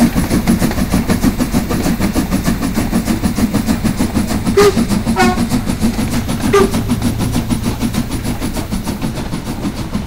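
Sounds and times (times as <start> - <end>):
rail noise: 0.0 - 10.0
steam locomotive exhaust beats: 0.0 - 10.0.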